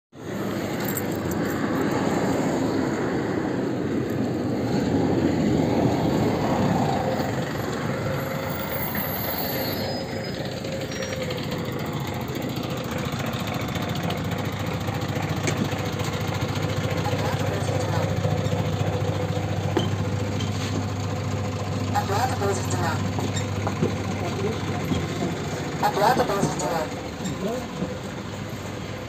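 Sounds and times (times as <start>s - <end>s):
street traffic passing: 0.1s - 29.0s
bus engine idling: 0.2s - 29.0s
bus pulling up: 0.2s - 29.0s.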